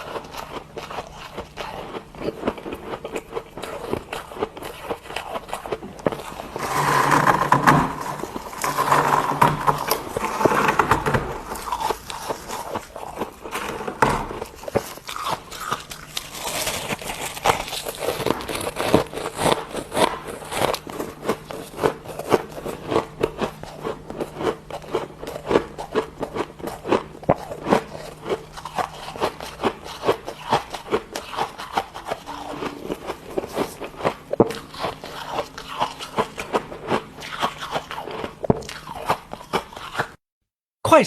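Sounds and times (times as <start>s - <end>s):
frost being chewed: 0.0s - 40.2s.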